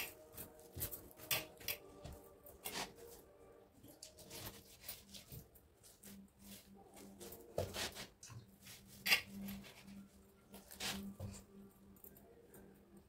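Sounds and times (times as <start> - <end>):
hands kneading dough: 0.0 - 11.6.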